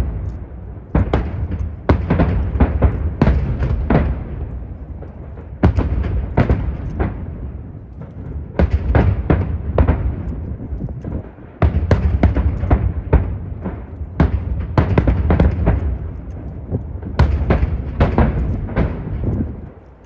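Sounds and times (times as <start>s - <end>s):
deep echoing rumble: 0.0s - 20.0s
fireworks booming and cracking: 0.0s - 20.0s.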